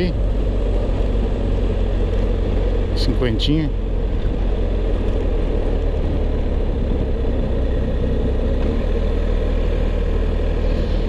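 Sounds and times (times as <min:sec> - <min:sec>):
motorcycle engine running: 0:00.0 - 0:11.0
wind rumble: 0:00.0 - 0:11.0.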